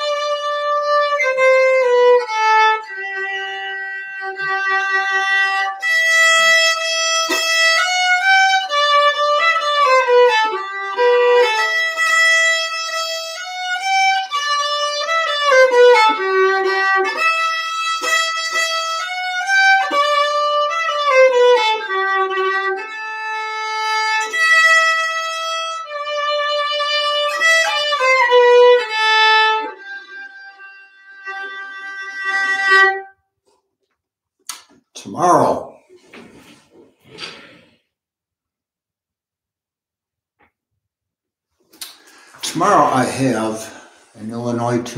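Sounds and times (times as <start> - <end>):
solo fiddle playing: 0.0 - 33.3, 41.8 - 44.9.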